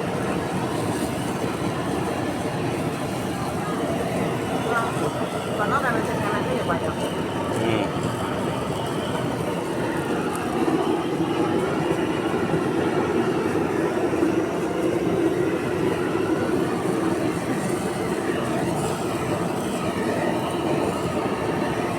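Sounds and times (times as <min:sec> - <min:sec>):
roaring flame: 0:00.0 - 0:21.9.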